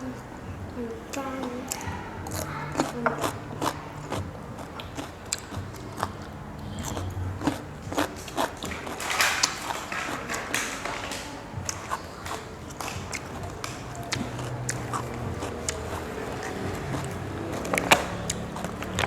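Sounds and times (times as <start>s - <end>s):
person chewing crunchy food: 1.1s - 19.0s.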